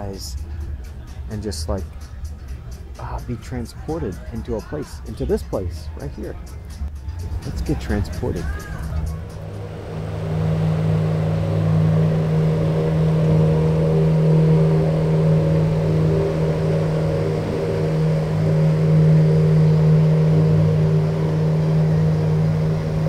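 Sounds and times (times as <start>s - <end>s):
boat engine humming: 0.0s - 23.0s.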